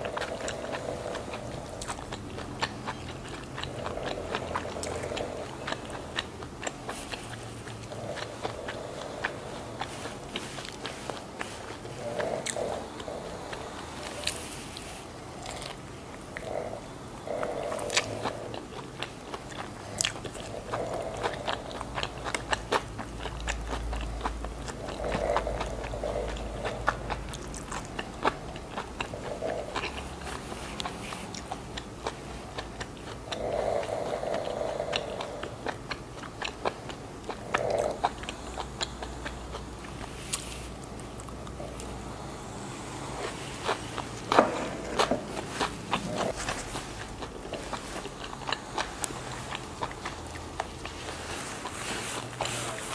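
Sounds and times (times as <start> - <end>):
chewing and crunching food: 0.0 - 52.9.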